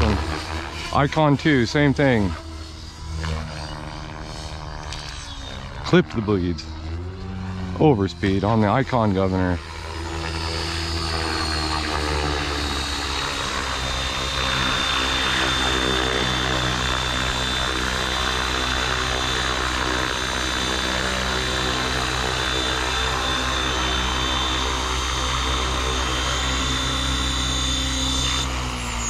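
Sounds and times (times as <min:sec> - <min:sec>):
high motor whine: 0:00.0 - 0:29.0
rc helicopter rotor hum: 0:00.0 - 0:29.0.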